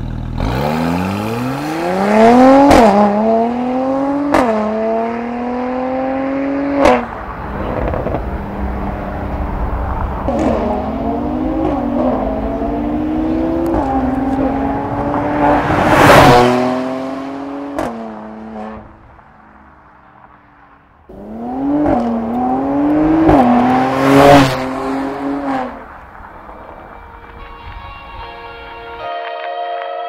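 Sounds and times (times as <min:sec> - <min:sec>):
car engine accelerating hard: 0:00.0 - 0:19.2, 0:21.1 - 0:27.0.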